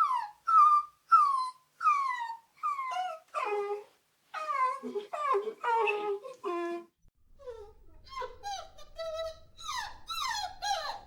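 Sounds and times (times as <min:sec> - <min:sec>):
puppies whining and crying: 0:00.0 - 0:06.8, 0:07.4 - 0:11.0.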